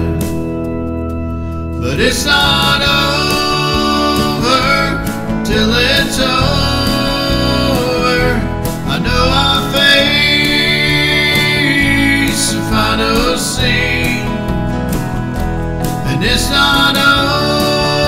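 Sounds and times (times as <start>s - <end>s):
country song with band: 0.0s - 18.0s.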